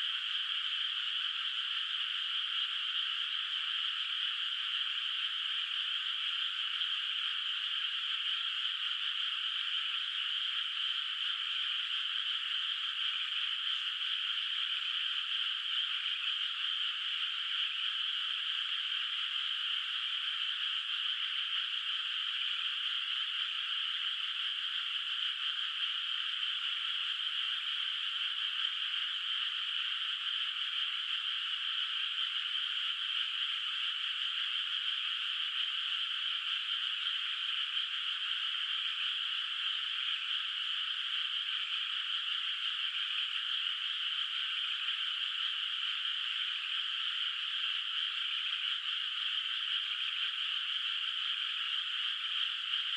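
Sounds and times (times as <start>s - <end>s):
chorus of frogs calling: 0.0s - 52.9s.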